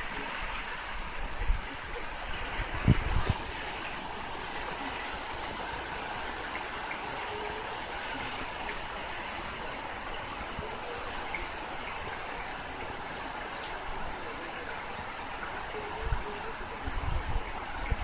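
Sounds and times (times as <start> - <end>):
wind and rain rushing: 0.0 - 18.0.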